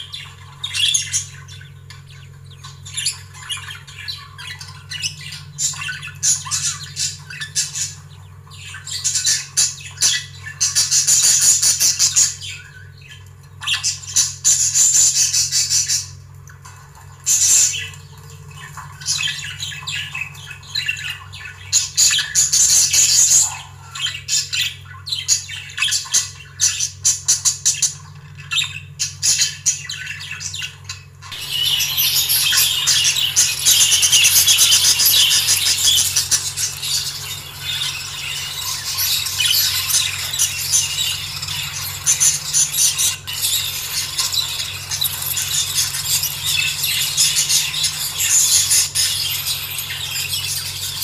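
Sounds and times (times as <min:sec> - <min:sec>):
budgerigars chattering and squawking: 0:00.0 - 0:16.1, 0:17.2 - 0:51.0
low steady hum: 0:00.0 - 0:51.0.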